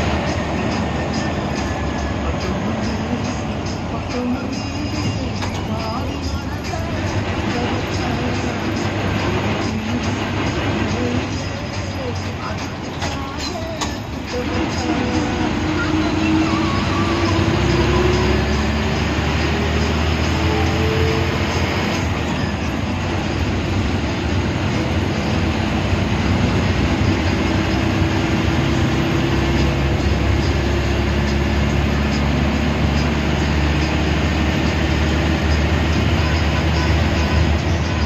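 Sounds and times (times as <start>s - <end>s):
bus engine drone: 0.0s - 38.0s
road rumble: 0.0s - 38.0s.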